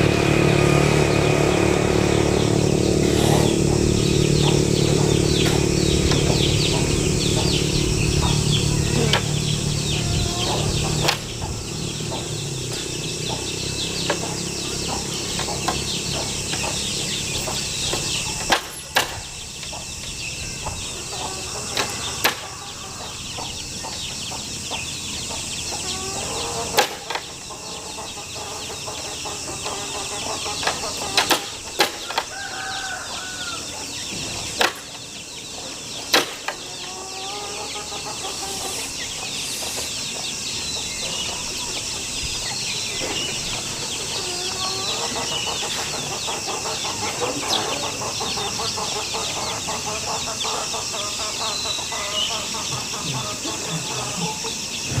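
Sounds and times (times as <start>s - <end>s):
motor engine rumble: 0.0s - 51.6s, 52.5s - 55.0s
birds chirping: 0.0s - 55.0s.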